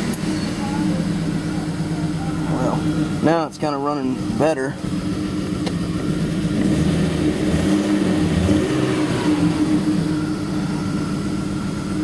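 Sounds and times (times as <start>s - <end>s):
car engine running unevenly: 0.0s - 12.0s.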